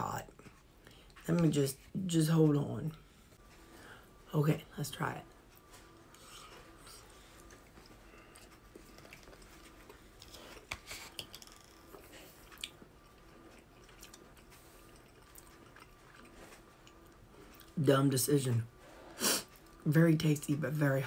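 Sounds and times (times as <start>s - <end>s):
faint chewing and mouth sounds: 0.0s - 4.1s, 5.2s - 19.9s.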